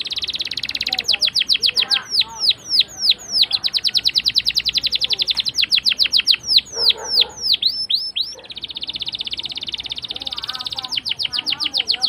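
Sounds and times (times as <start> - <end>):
canary singing trills: 0.0 - 12.0.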